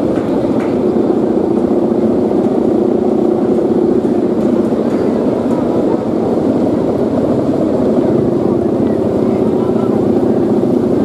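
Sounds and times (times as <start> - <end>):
kite hummers droning: 0.0 - 11.0
wind rushing on microphone: 0.0 - 11.0.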